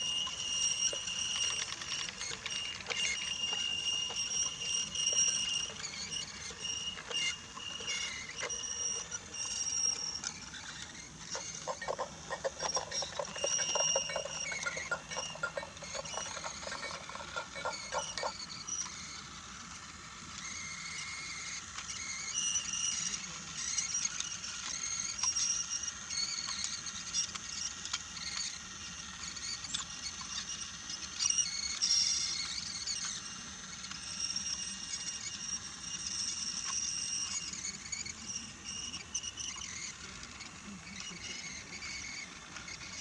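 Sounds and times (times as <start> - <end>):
toy train motor whine: 0.0 - 43.0.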